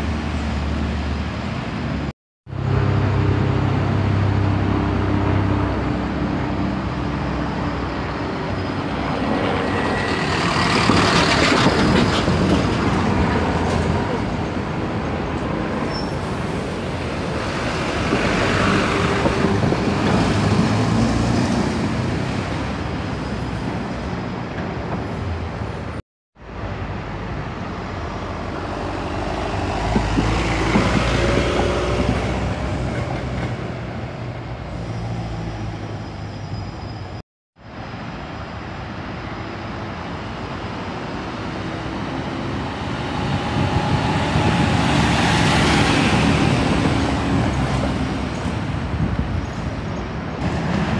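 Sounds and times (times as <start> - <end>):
bus engines running: 0.0 - 50.9
traffic noise: 0.0 - 50.9.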